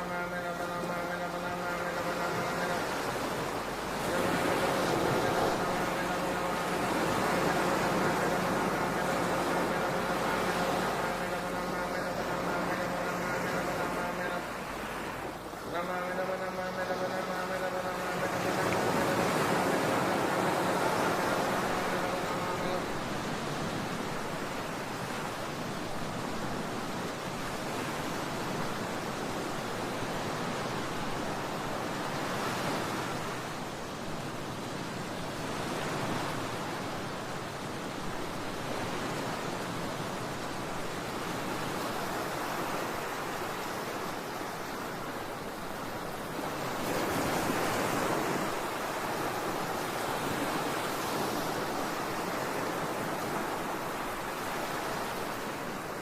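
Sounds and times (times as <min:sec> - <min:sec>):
ocean waves: 0:00.0 - 0:56.0.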